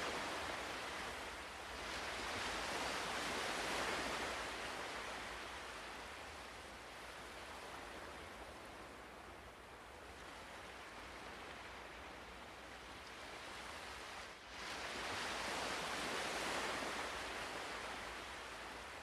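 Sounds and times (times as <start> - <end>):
ocean waves on shore: 0.0 - 19.0.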